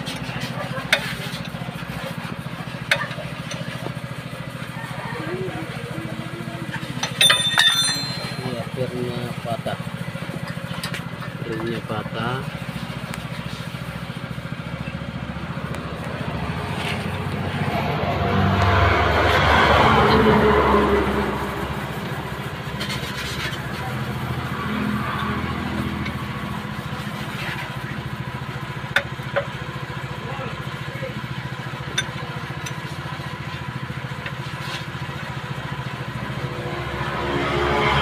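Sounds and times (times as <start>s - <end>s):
vehicle engine idling: 0.0s - 38.0s.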